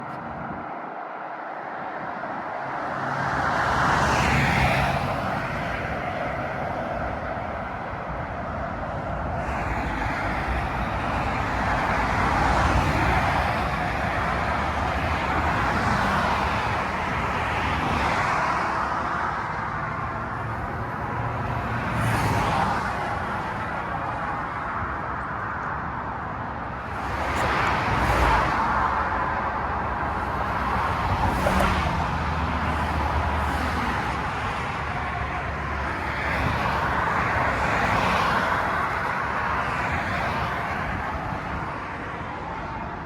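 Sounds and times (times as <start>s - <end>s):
highway traffic noise: 0.0s - 43.0s
vehicles passing: 0.0s - 43.0s.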